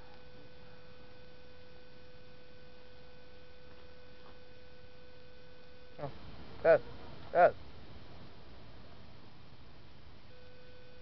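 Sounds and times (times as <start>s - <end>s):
background hiss: 0.0s - 11.0s
steady hum: 0.0s - 11.0s.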